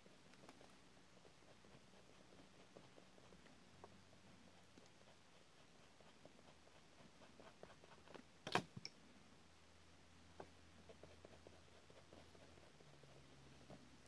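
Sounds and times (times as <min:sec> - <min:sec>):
pencil strokes on paper: 0:00.0 - 0:08.2, 0:10.4 - 0:14.0.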